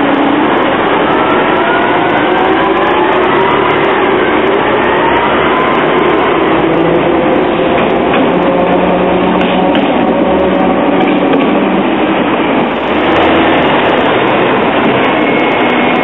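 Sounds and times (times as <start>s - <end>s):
traffic noise: 0.0s - 16.0s
tram passing on track: 0.0s - 16.0s.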